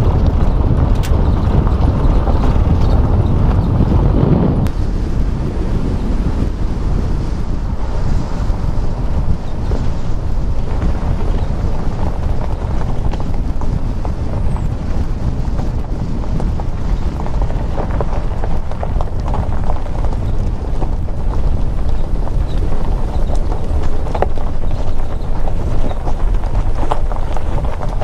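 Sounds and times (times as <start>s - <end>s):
gravel ticks: 0.0s - 4.8s, 6.0s - 28.0s
tyres rumbling on gravel: 0.0s - 28.0s
wind buffeting microphone: 0.0s - 28.0s.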